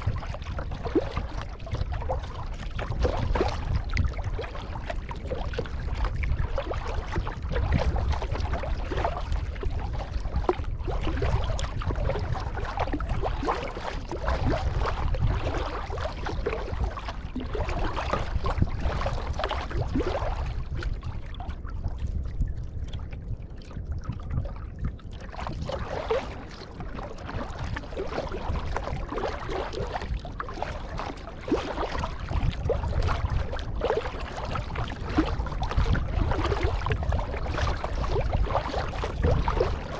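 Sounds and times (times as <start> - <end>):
kayak paddle splashing: 0.0 - 21.9, 24.1 - 39.9
steady low rumble: 0.0 - 39.9.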